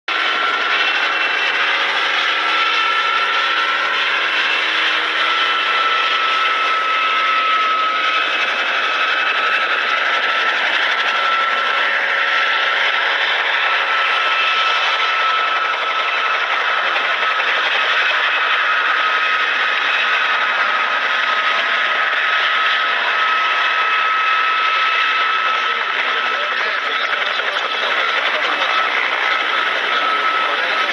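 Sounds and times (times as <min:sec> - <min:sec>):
helicopter engine and rotor: 0:00.1 - 0:30.9
thin steady whine: 0:00.1 - 0:30.9.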